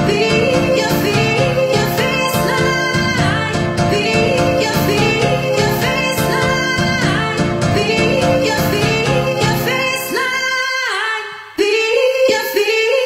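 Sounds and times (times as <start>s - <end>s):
dance track with sung vocal: 0.0s - 13.0s.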